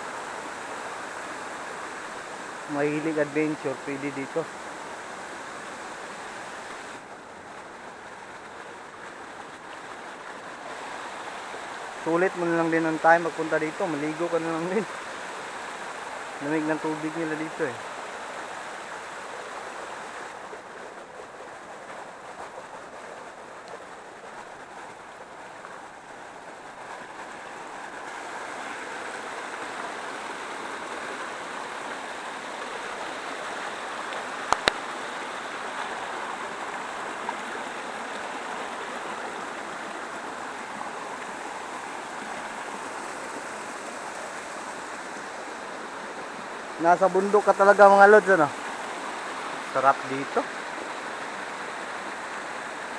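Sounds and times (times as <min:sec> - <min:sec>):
waterfall rushing over rocks: 0:00.0 - 0:52.9.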